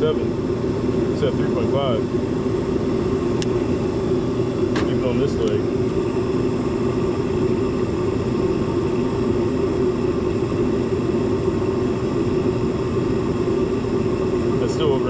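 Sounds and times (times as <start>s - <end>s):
gas furnace humming: 0.0s - 15.0s.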